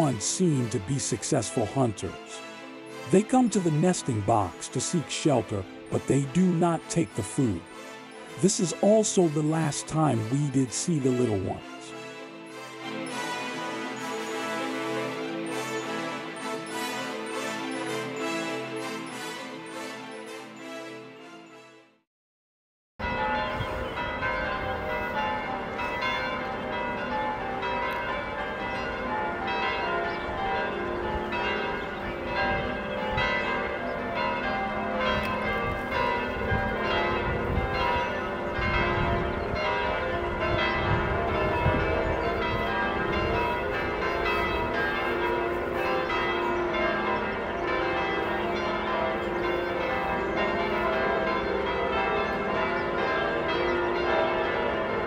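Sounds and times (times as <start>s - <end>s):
church bells pealing: 0.0s - 20.8s, 23.0s - 55.0s.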